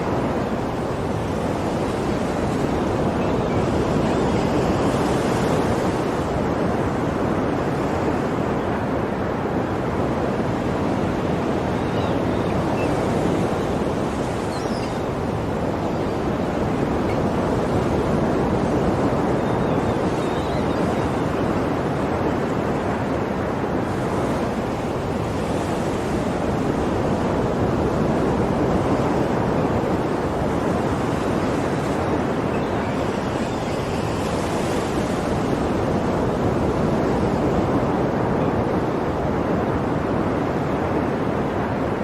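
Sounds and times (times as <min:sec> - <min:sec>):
ocean waves washing on shore: 0:00.0 - 0:42.0.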